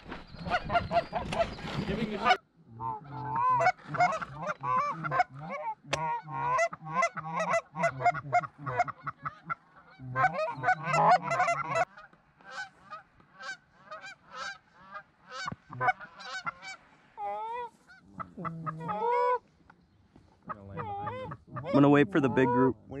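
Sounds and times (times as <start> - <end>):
geese honking and clucking: 0.4 - 23.0.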